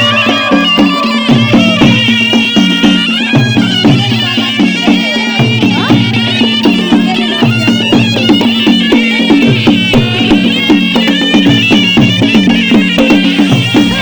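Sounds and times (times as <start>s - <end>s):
quick regular drumbeats: 0.0s - 14.0s
reed pipe melody: 0.0s - 14.0s.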